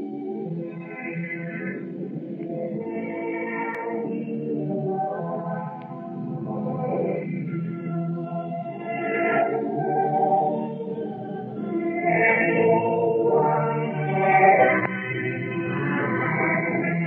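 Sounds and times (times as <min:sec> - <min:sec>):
choral music over radio: 0:00.0 - 0:17.0.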